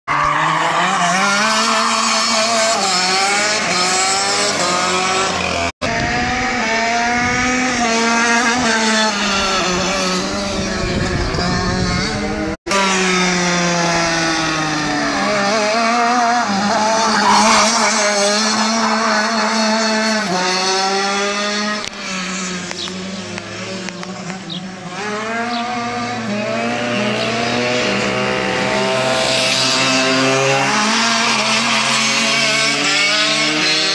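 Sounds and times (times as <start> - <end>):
go-kart engines revving: 0.1 - 33.9.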